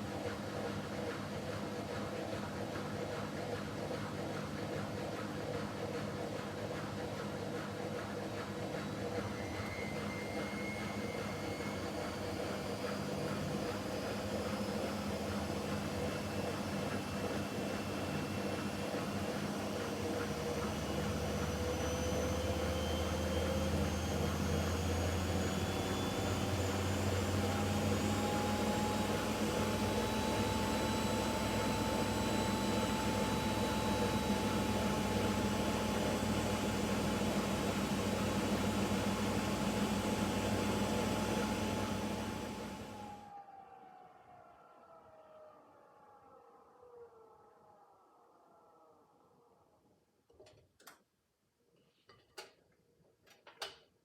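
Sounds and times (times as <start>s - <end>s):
washing machine spinning: 0.0s - 44.0s.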